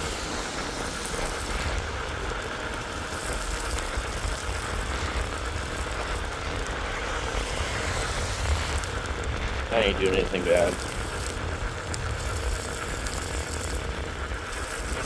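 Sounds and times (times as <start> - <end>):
tyres on wet road: 0.0 - 15.0
wind rumble on microphone: 0.0 - 15.0.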